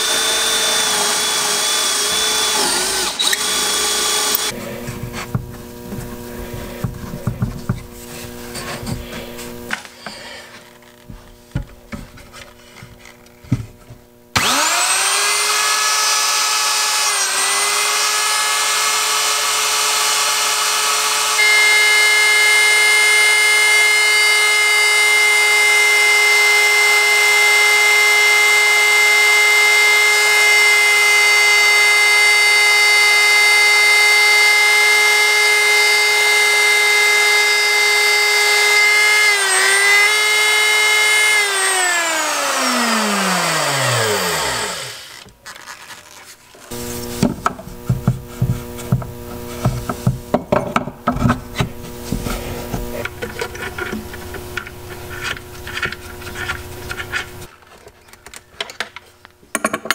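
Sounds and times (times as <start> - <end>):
electric router motor whine: 0.0 - 57.5.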